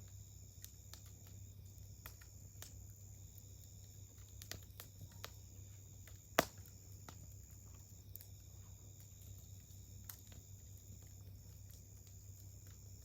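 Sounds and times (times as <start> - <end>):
sharp pops from fire: 0.0 - 13.0
wood campfire crackling: 0.0 - 13.0.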